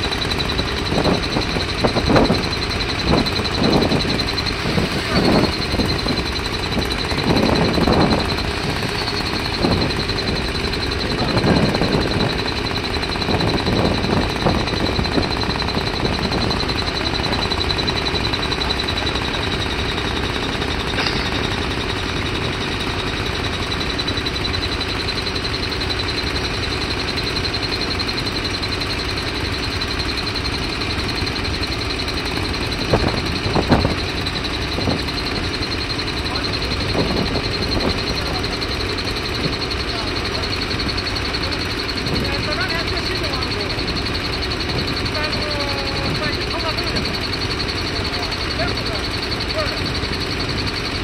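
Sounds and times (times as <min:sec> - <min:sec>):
constant high whine: 0:00.0 - 0:51.0
drill hammering rock: 0:00.0 - 0:51.0.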